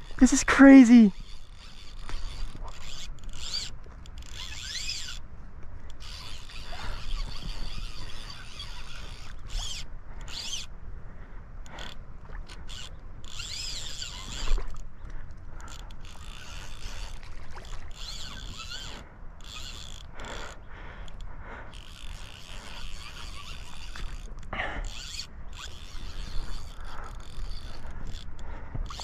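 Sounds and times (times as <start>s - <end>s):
fishing reel drag buzzing: 0.0s - 10.7s, 11.6s - 14.8s, 15.6s - 29.0s.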